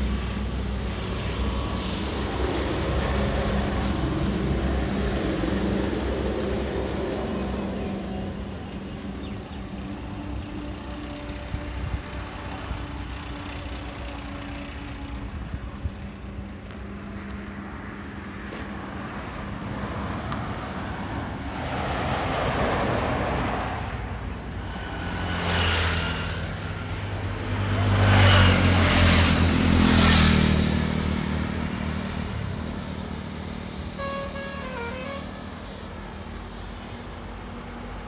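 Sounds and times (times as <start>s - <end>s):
vehicles passing on highway: 0.0s - 38.0s.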